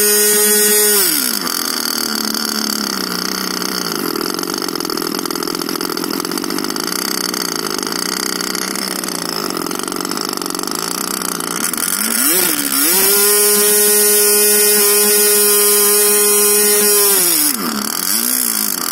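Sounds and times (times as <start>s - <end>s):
model aircraft engine running: 0.0s - 18.9s.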